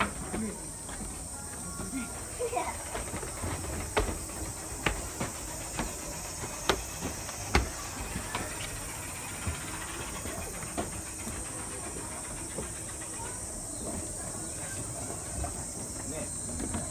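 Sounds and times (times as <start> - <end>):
footsteps on wooden deck: 0.0 - 16.9
steady high hiss: 0.0 - 16.9.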